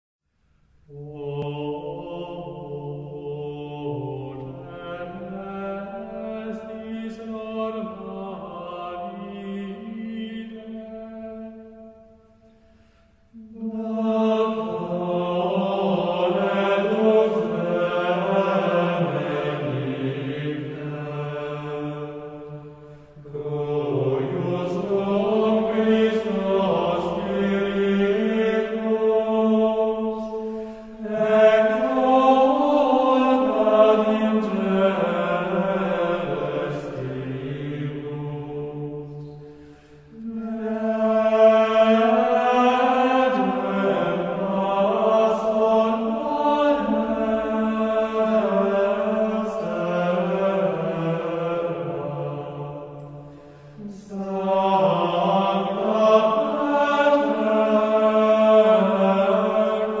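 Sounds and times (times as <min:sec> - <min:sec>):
slow chant-like vocals: 0:00.7 - 1:00.0.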